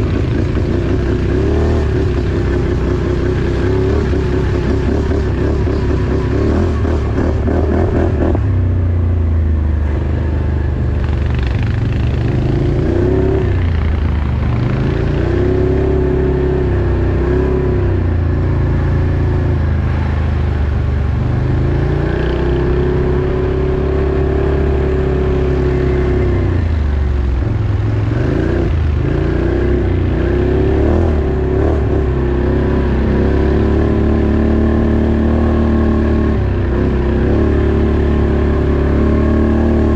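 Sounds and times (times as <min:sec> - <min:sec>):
vehicle engine revving: 0:00.0 - 0:08.6, 0:09.8 - 0:39.9.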